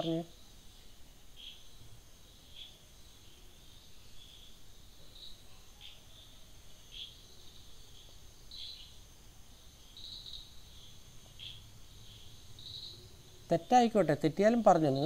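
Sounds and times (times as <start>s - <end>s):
thin steady high tone: 0.0s - 15.0s.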